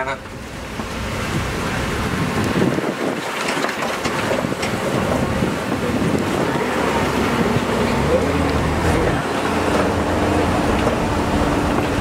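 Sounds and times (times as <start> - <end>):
truck engine and road noise: 0.0 - 12.0
wind buffeting microphone: 0.4 - 12.0.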